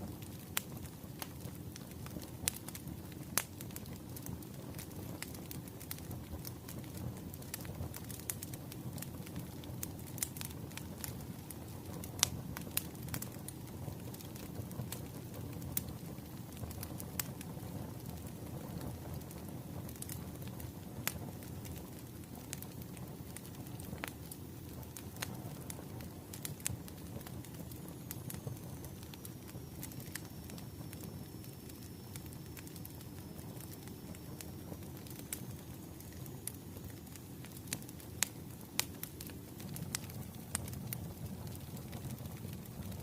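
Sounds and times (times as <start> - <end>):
fire pops: 0.0 - 43.0
wood fire crackling: 0.0 - 43.0.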